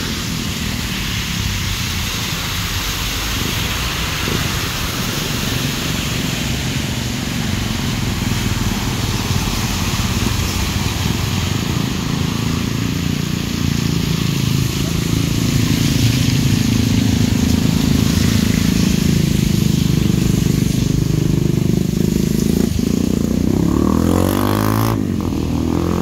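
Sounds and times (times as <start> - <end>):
vehicles driving through water: 0.0 - 26.0.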